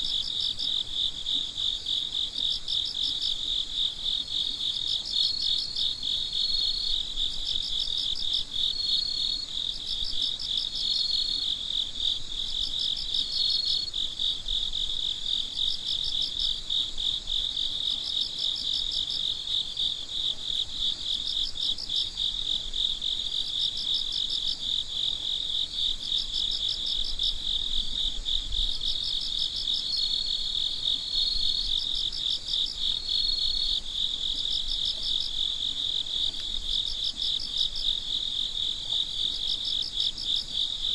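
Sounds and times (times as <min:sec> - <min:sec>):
cricket trill: 0:00.0 - 0:40.9
crickets chirping: 0:00.0 - 0:40.9.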